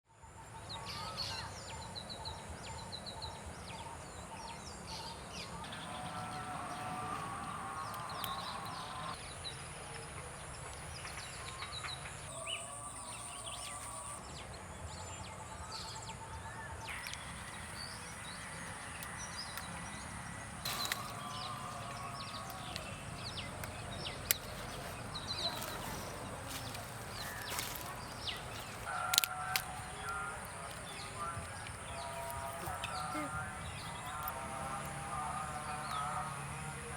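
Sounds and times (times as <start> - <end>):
birds chirping: 0.8 - 9.6, 10.6 - 36.9.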